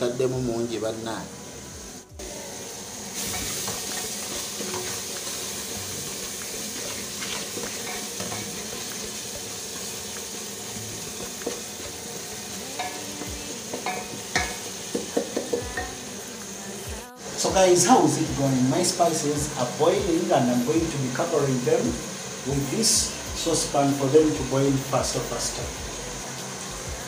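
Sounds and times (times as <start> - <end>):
vegetables sizzling in oil: 0.0 - 27.0.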